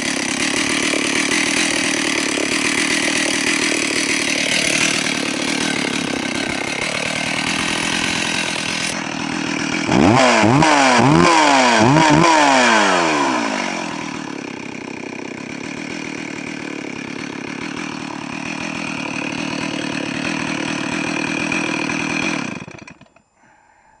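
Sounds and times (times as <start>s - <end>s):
chainsaw engine revving and idling: 0.0s - 23.2s.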